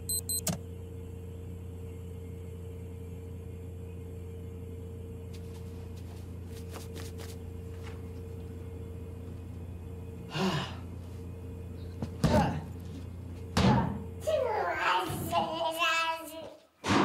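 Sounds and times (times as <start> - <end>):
low electrical hum: 0.0 - 16.9.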